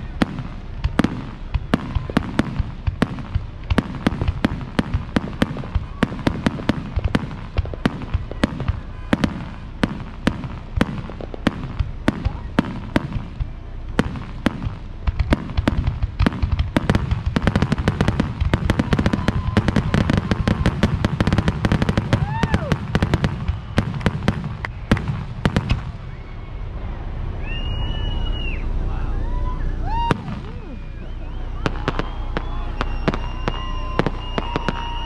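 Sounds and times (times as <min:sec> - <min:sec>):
fireworks bangs and crackles: 0:00.0 - 0:26.3, 0:29.9 - 0:35.0
low rumble: 0:00.0 - 0:35.0.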